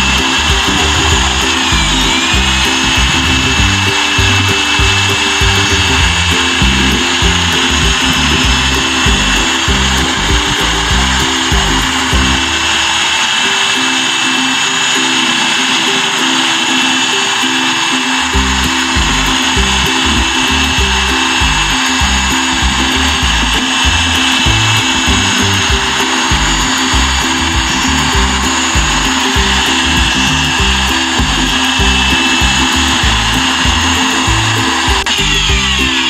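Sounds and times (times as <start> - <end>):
background music with beat: 0.0 - 36.0
electric drill whining: 0.0 - 36.0.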